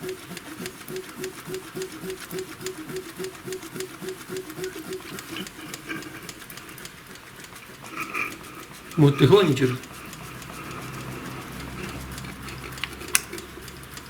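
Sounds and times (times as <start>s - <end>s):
car engine running with clatter: 0.0s - 14.0s
fast ticking: 0.0s - 14.0s.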